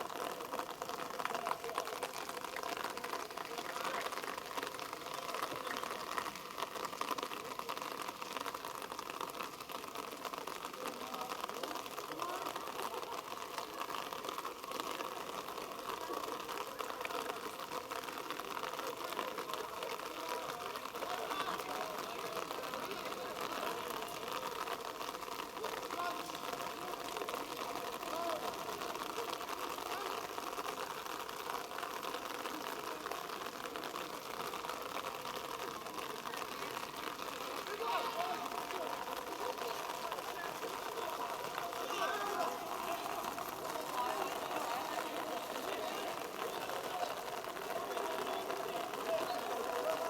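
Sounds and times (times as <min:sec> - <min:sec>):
continuous hiss: 0:00.0 - 0:50.0
faint distant voices: 0:09.5 - 0:50.0.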